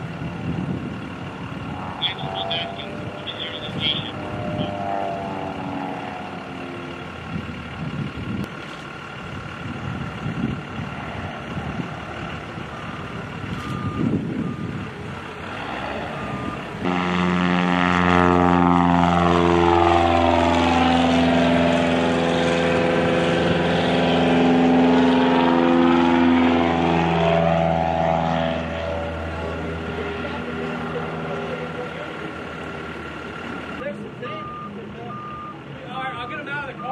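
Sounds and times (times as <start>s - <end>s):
light plane engine droning: 0.0s - 36.7s.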